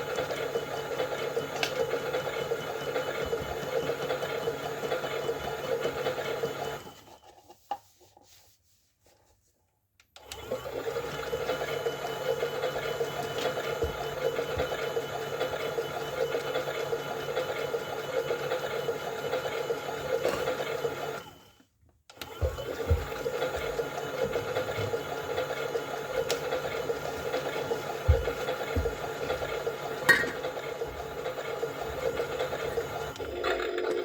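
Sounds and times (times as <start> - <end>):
toy washing machine motor whirring: 0.0 - 7.8, 10.2 - 34.0.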